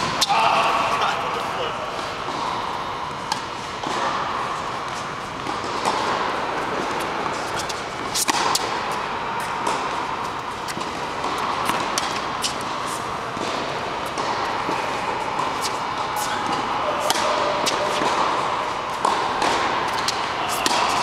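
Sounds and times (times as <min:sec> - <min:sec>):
tennis ball struck and bouncing: 0:03.3 - 0:15.8, 0:16.4 - 0:21.0.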